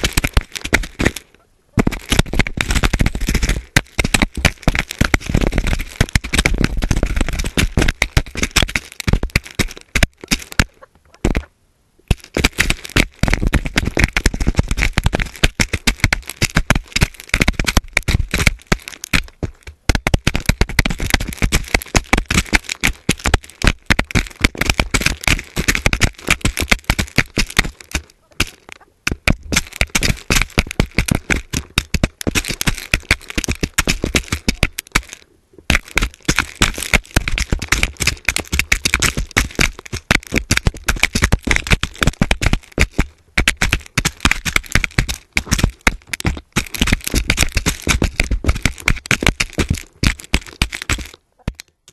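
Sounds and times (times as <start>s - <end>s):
beaks clicking on grain: 0.0s - 11.4s, 12.0s - 51.9s.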